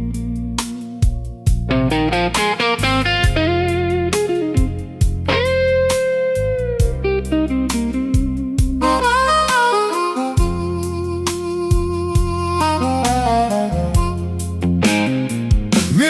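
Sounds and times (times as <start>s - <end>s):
bass and drums beat: 0.0s - 16.0s
blues electric guitar: 0.0s - 16.0s.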